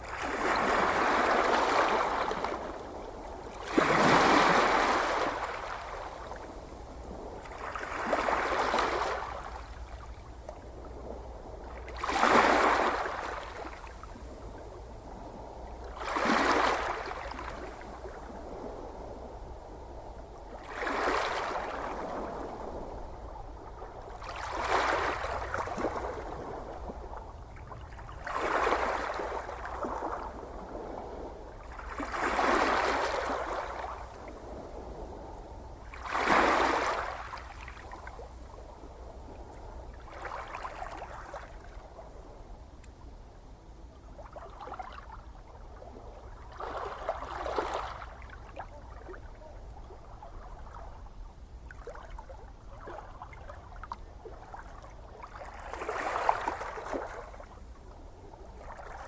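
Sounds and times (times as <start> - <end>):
ocean waves breaking on shore: 0.0 - 42.2, 46.2 - 51.1, 52.8 - 59.0.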